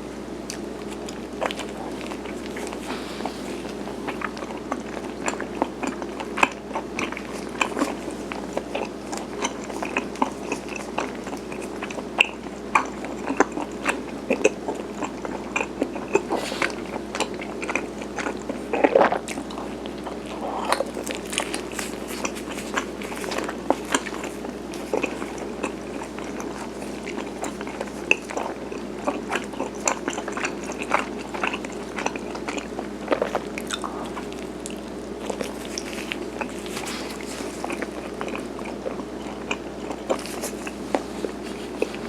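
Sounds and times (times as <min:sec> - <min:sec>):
chewing and biting rice cake: 0:00.0 - 0:42.0
steady low hum: 0:00.0 - 0:42.0.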